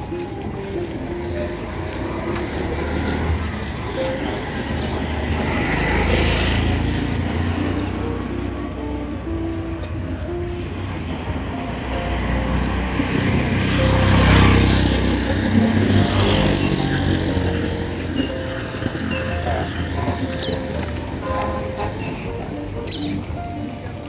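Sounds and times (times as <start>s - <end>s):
road vehicle rumble: 0.0s - 24.0s.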